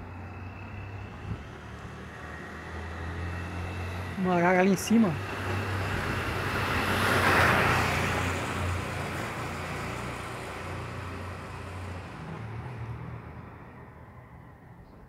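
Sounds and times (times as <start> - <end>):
road vehicle passing by: 0.0 - 15.0.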